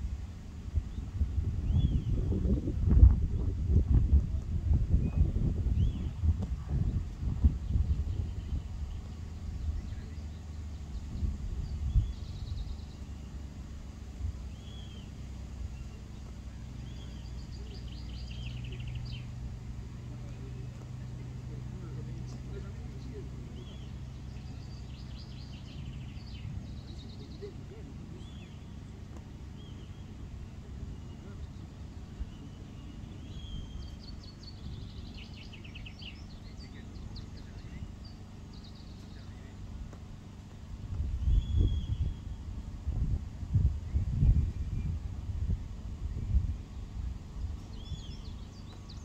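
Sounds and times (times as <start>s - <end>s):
low background rumble: 0.0s - 49.0s
small birds chirping: 0.0s - 49.0s
steady low hum: 0.0s - 49.0s.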